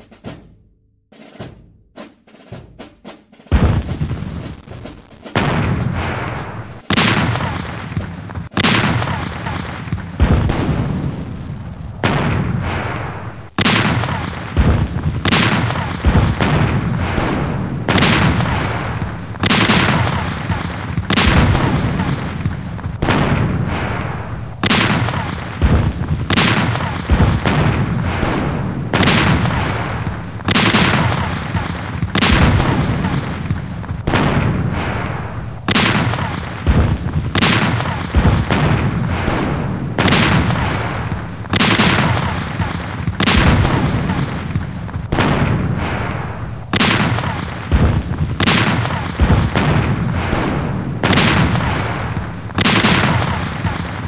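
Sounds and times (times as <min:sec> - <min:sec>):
cannon fire booming: 0:03.4 - 0:54.0.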